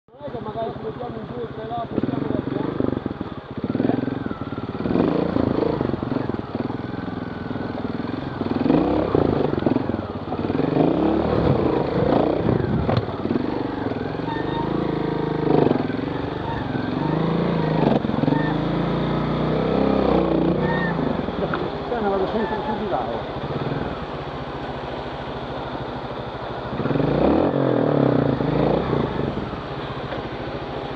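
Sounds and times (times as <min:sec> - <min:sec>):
motorcycle engine revving: 0:00.1 - 0:30.9.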